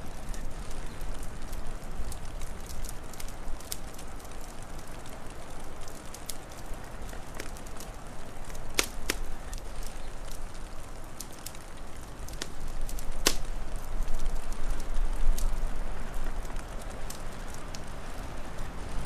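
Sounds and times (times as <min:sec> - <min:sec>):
low rumble of wind: 0:00.0 - 0:19.0
wood fire crackling: 0:00.0 - 0:19.0.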